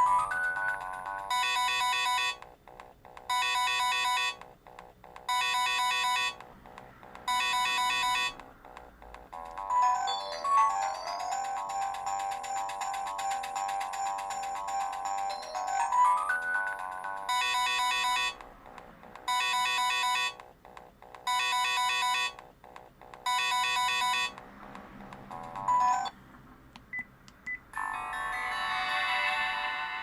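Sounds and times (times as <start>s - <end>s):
phone ringtone melody: 0.0s - 26.2s, 27.7s - 30.0s.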